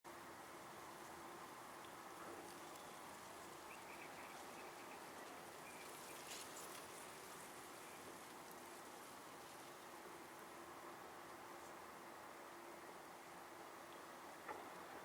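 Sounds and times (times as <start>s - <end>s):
faint outdoor hiss: 0.1s - 15.0s.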